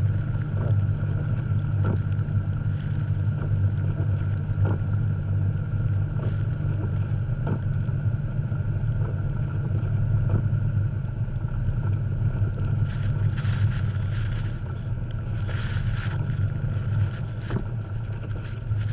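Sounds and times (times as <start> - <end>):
engine low rumble: 0.0 - 18.9.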